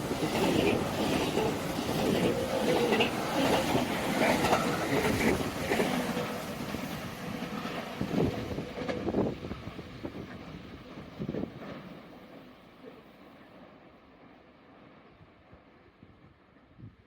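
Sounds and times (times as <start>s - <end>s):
train wheels clattering over rails: 0.0s - 14.4s.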